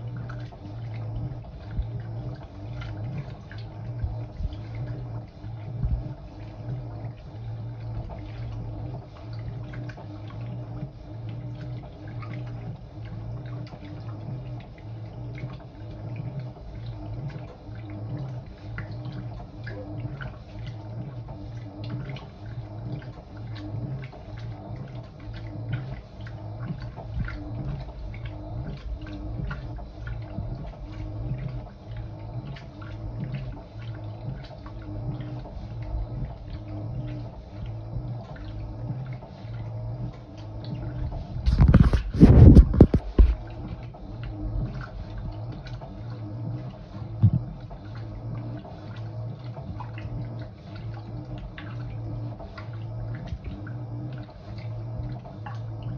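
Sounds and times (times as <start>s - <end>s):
washing machine motor humming: 0.0s - 55.9s
water sloshing in drum: 0.0s - 55.9s.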